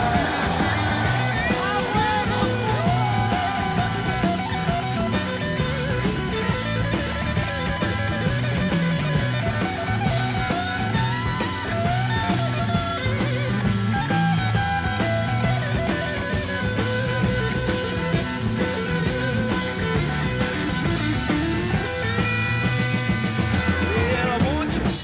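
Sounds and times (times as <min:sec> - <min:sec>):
rock music with wavering guitar: 0:00.0 - 0:25.0.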